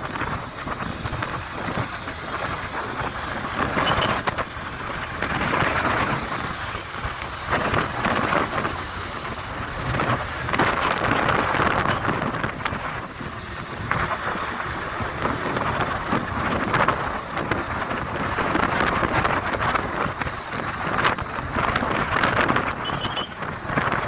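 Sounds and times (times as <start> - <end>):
motorcycle road and engine noise: 0.0 - 24.0
wind rushing over microphone: 0.0 - 24.0.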